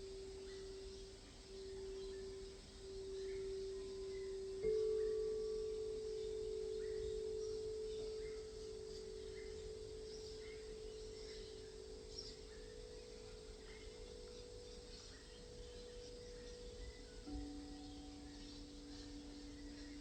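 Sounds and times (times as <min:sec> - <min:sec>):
low steady bowl tone: 0:00.0 - 0:20.0
sound bowl ringing: 0:00.0 - 0:20.0.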